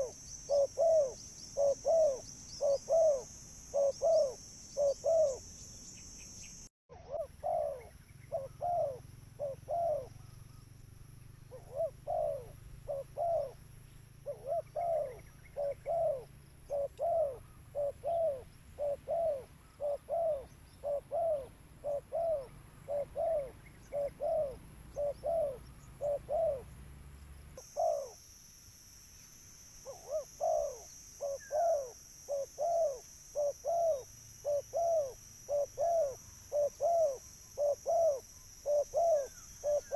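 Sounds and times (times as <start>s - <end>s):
dove cooing: 0.0s - 5.5s, 6.9s - 10.6s, 11.5s - 26.7s, 27.6s - 28.2s, 29.8s - 39.9s.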